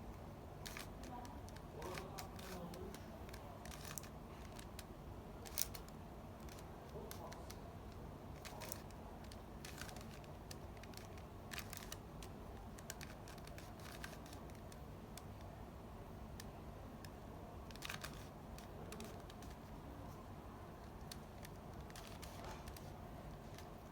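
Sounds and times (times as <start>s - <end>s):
plastic puzzle cube clicking: 0.6s - 7.6s, 8.4s - 15.4s, 16.4s - 19.6s, 21.0s - 23.8s.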